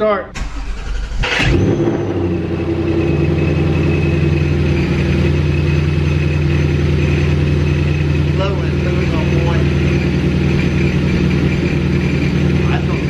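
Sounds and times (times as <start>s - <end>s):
car engine idling: 0.0s - 13.0s
supercharger whine: 0.3s - 13.0s.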